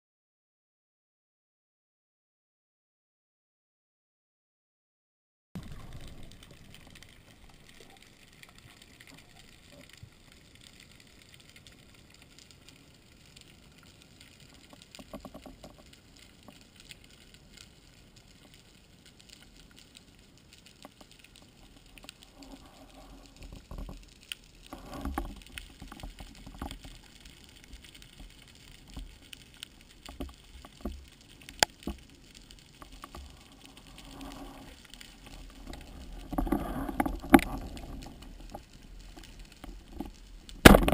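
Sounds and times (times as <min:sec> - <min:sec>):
faint underwater hiss: 0:05.6 - 0:40.8
water swishes: 0:05.6 - 0:40.9.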